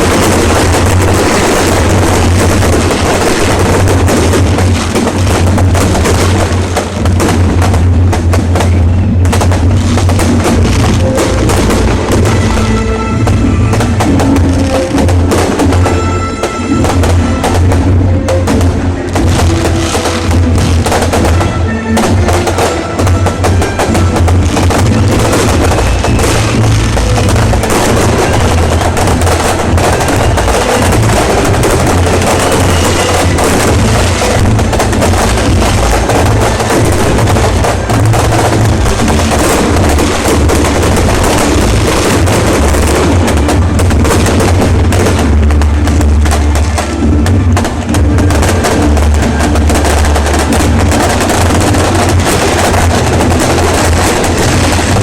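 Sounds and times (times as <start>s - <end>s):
deep rumble: 0.0s - 55.0s
fireworks crackling and bangs: 0.0s - 55.0s.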